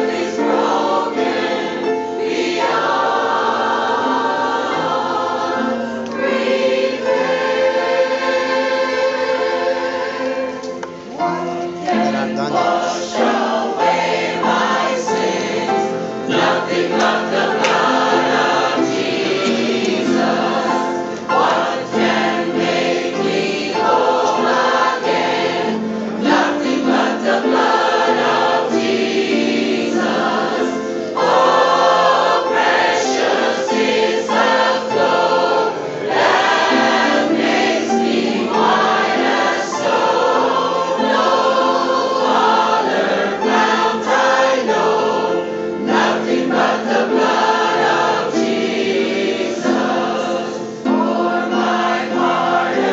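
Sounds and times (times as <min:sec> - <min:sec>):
choir singing gospel song: 0:00.0 - 0:52.9.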